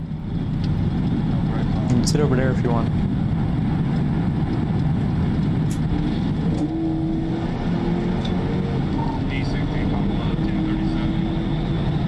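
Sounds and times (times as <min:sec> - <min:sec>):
car engine and road noise: 0:00.0 - 0:12.0
held engine tone: 0:00.0 - 0:12.0.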